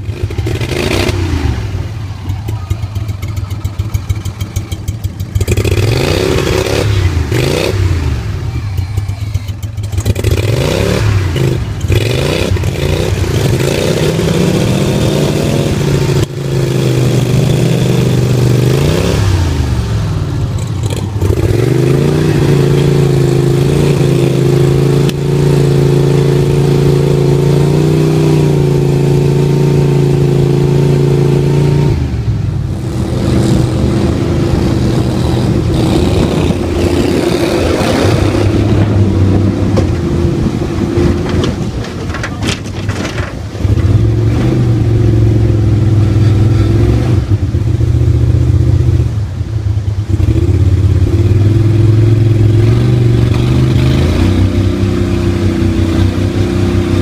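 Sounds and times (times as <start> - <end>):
boat motor engine revving: 0.0 - 57.0.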